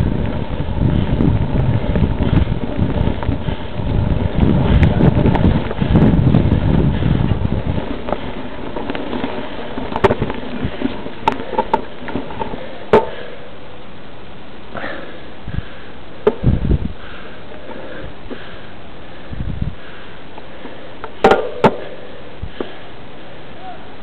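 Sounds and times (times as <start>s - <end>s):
wind rumbling on microphone: 0.0s - 13.3s, 14.8s - 20.9s, 21.5s - 24.0s
steady hiss: 0.0s - 24.0s.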